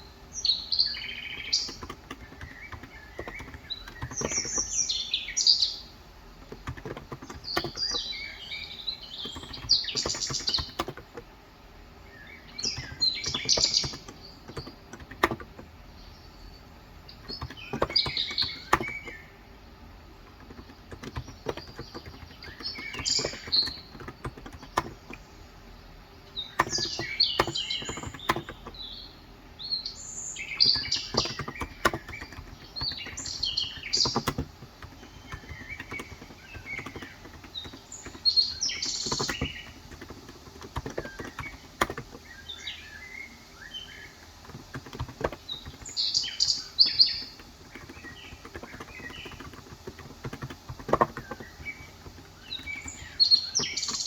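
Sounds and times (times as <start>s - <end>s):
birds chirping and twittering: 0.0s - 54.0s
keyboard keystrokes: 1.2s - 5.0s, 6.4s - 11.3s, 12.4s - 15.8s, 17.1s - 19.3s, 20.2s - 25.3s, 26.4s - 29.0s, 30.4s - 42.6s, 44.2s - 54.0s.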